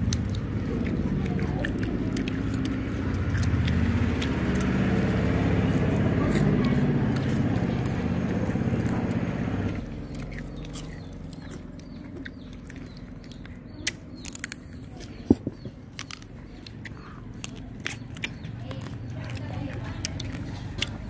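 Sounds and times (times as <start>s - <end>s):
sharp mouth clicks: 0.0s - 5.5s, 9.6s - 21.0s
low engine-like hum: 0.0s - 21.0s
wet chewing and smacking: 0.0s - 21.0s.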